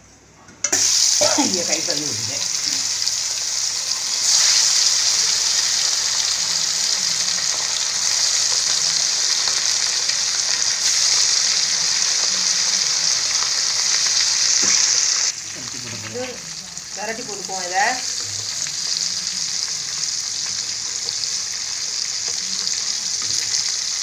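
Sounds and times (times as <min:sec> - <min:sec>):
fish deep-frying in hot oil: 0:00.8 - 0:24.0.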